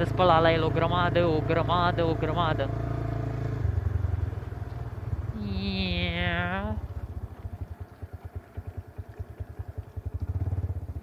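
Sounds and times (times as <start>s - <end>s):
atv engine chugging: 0.0s - 11.0s.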